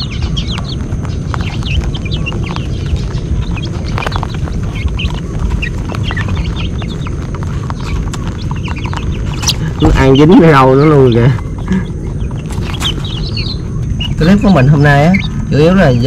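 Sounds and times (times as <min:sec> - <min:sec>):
chicks peeping: 0:00.0 - 0:16.0
rabbits crunching grain: 0:00.0 - 0:16.0.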